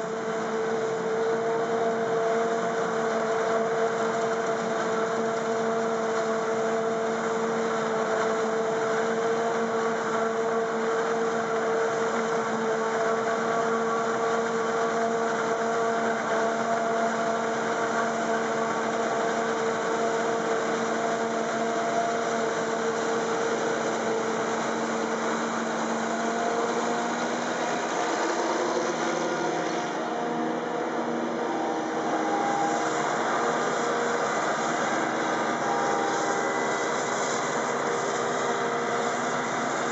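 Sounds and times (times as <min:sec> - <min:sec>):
engine noise: 0:00.0 - 0:39.9
harvester mechanical whine: 0:00.0 - 0:39.9.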